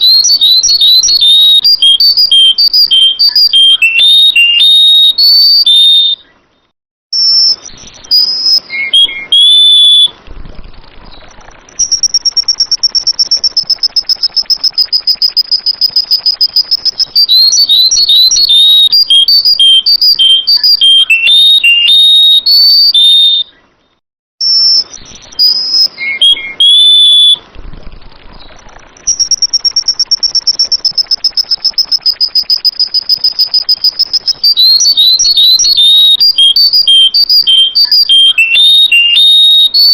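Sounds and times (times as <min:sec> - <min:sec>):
bird whistled phrases: 0:00.0 - 0:06.4, 0:07.2 - 0:10.2, 0:11.1 - 0:23.6, 0:24.4 - 0:27.5, 0:28.4 - 0:39.9
fast high bird trill: 0:00.0 - 0:06.5, 0:07.2 - 0:10.2, 0:11.1 - 0:23.6, 0:24.4 - 0:27.5, 0:28.4 - 0:39.9.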